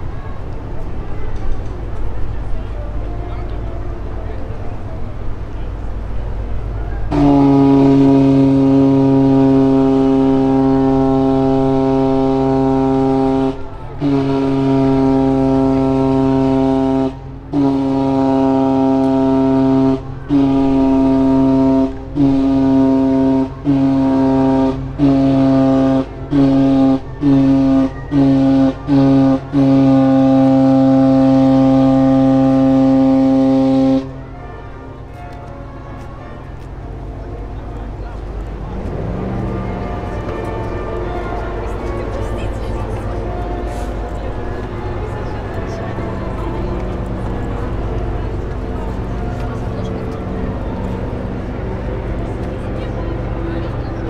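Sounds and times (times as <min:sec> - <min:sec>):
hoarse ship horn blasts: 0:06.6 - 0:54.0.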